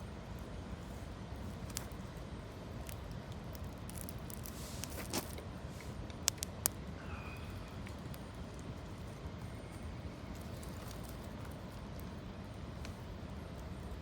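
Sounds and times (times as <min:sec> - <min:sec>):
campfire pops and crackles: 0:01.4 - 0:07.0, 0:07.6 - 0:14.0.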